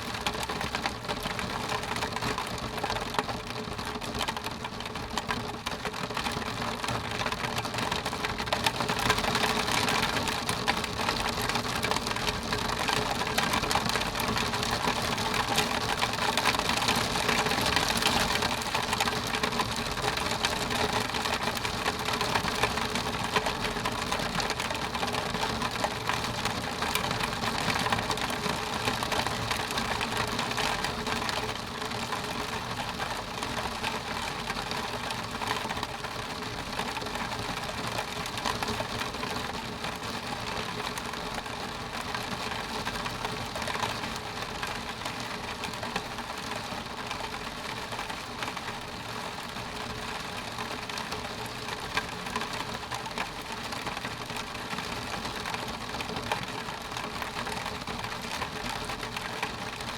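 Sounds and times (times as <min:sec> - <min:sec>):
rain on window glass: 0:00.0 - 0:59.9.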